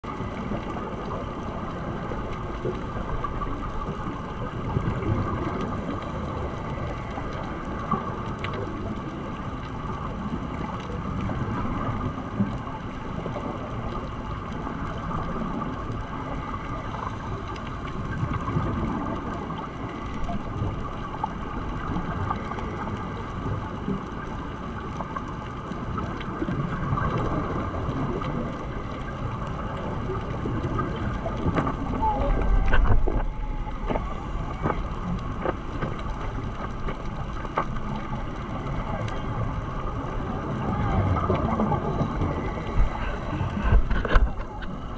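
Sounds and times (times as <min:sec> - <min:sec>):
muffled underwater rumble: 0:00.0 - 0:44.9
faint clicks: 0:00.2 - 0:44.9.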